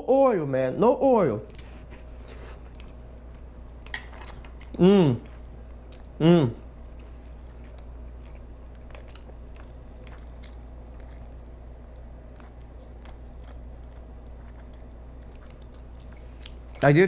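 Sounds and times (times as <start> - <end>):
person chewing food: 1.5 - 16.9.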